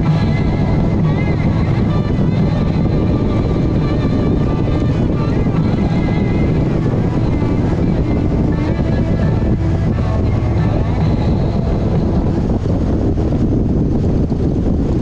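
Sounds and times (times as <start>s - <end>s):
vehicle low rumble: 0.0s - 15.0s
wind buffeting microphone: 0.0s - 15.0s.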